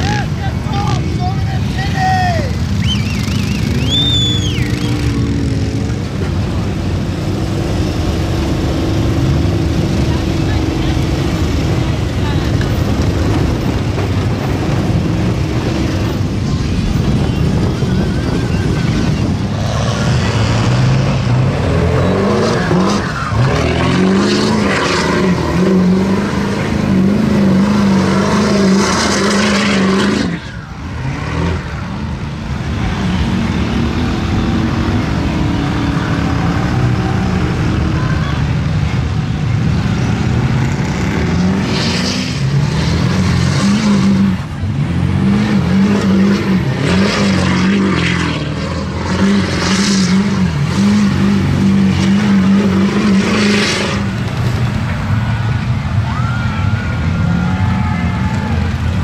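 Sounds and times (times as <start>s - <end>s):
vehicle engines revving: 0.0s - 59.0s.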